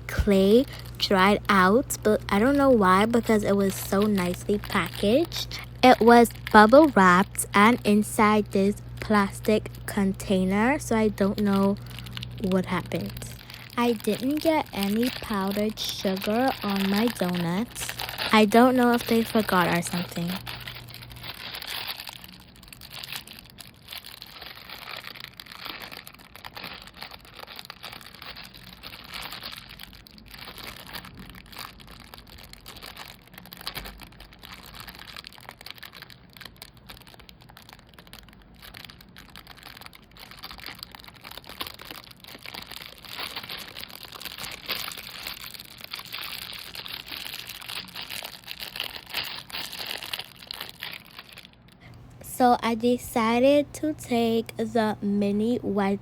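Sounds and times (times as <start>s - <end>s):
plastic packaging crinkling: 0.0s - 56.0s
packaging tearing: 0.6s - 52.0s.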